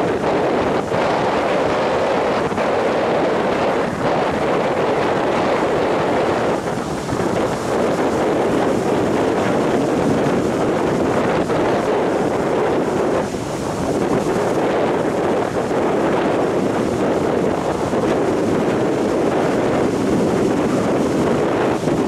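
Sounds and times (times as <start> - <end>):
surf breaking on beach: 0.0 - 22.0
wind on microphone: 0.0 - 22.0.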